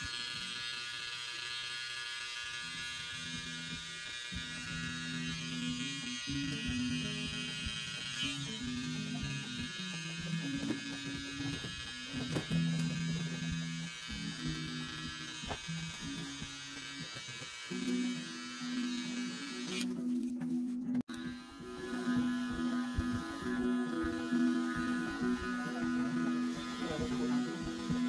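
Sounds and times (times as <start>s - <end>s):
hair clipper running: 0.0s - 20.0s, 21.1s - 28.0s
hair trimmer buzzing: 0.0s - 20.1s, 21.1s - 28.0s.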